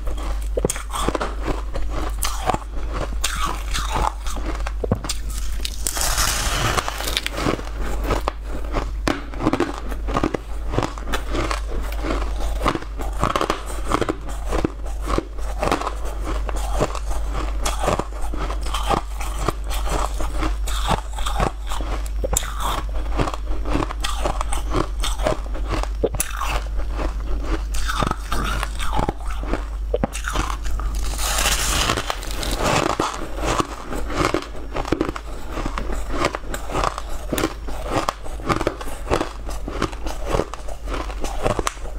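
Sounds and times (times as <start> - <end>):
crunching shaved ice: 0.1 - 41.9.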